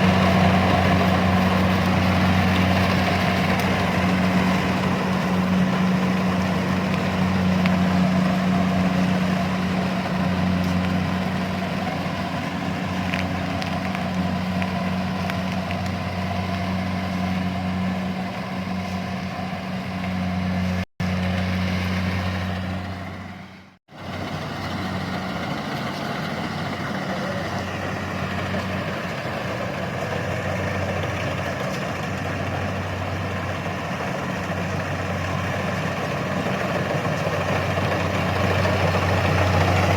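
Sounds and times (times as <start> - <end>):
machinery engine droning: 0.0 - 39.9.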